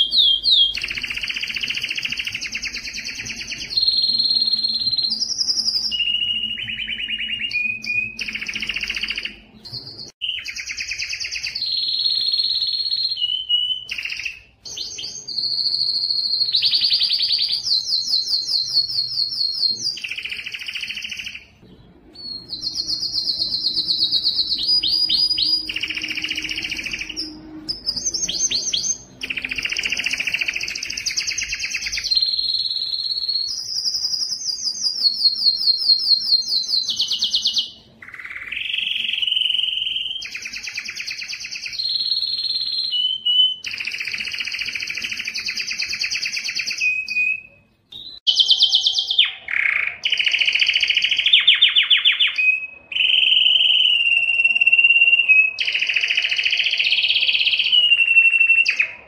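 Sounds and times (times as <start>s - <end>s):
canary singing trills and whistles: 0.0s - 59.0s.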